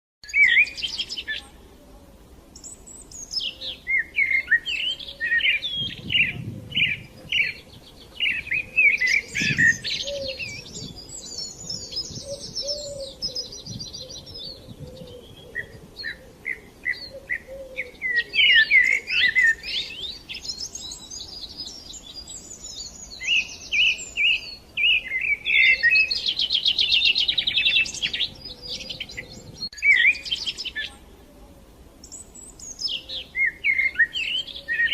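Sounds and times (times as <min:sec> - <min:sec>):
songbirds chirping and trilling: 0:00.2 - 0:34.9.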